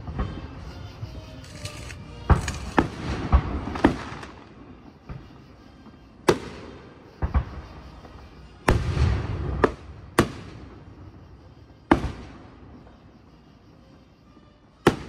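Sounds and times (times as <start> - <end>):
fireworks bursting with echoing bangs: 0.0 - 12.9.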